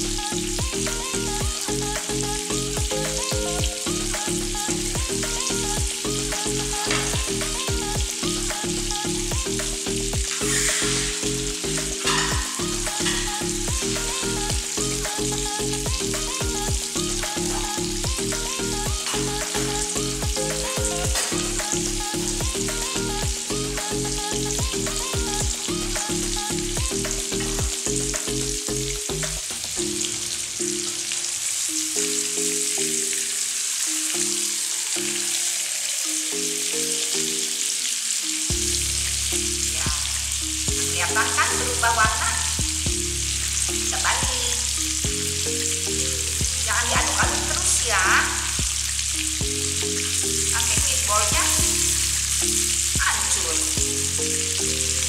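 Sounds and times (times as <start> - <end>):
background music with steady beat: 0.0 - 35.3, 36.0 - 55.0
meatballs sizzling in hot oil: 0.0 - 55.0.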